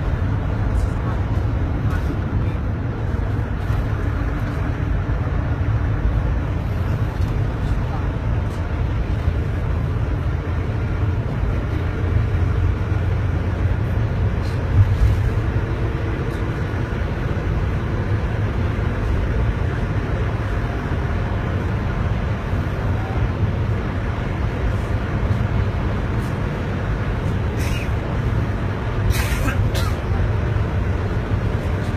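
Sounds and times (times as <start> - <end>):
car driving on road: 0.0 - 31.9.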